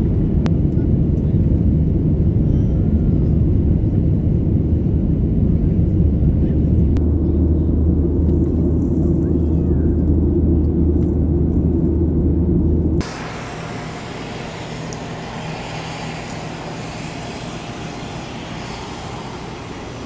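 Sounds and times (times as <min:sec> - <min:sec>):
airliner cabin engine drone: 0:00.0 - 0:20.0.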